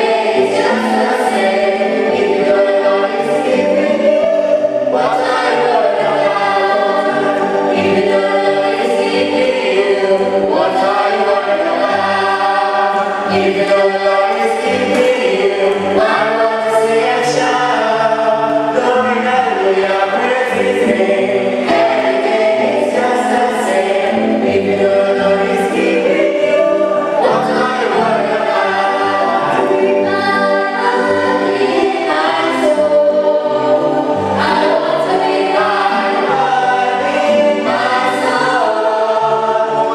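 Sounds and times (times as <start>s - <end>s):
group singing a hymn: 0.0s - 39.9s.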